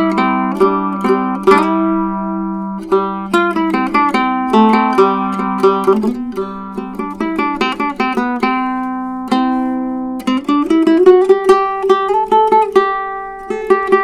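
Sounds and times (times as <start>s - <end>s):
picked ukulele notes: 0.0s - 14.0s.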